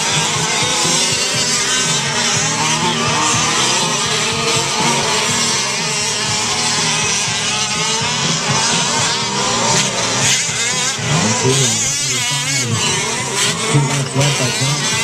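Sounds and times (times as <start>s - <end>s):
small two-stroke engines revving: 0.0s - 15.0s.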